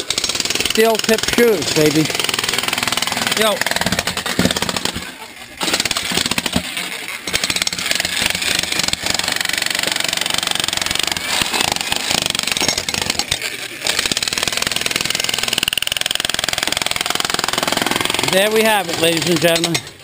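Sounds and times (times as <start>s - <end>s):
jackhammer hammering into rock: 0.0s - 20.0s.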